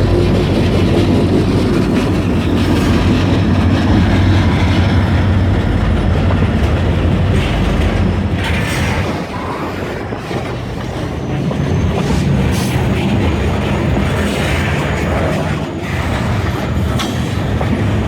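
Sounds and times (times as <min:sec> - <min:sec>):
freight train rumbling past: 0:00.0 - 0:18.0
wheels clicking over rail joints: 0:00.0 - 0:18.0.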